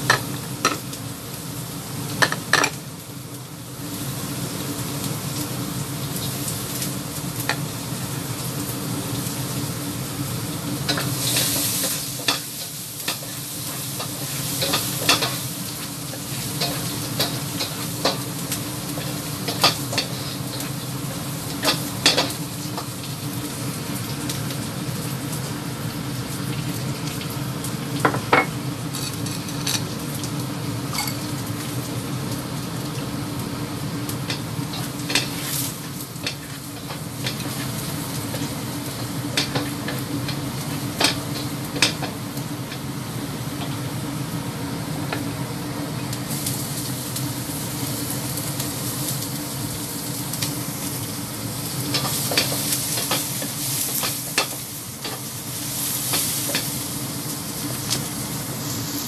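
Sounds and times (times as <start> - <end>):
garlic sizzling in hot oil: 0.0 - 59.0.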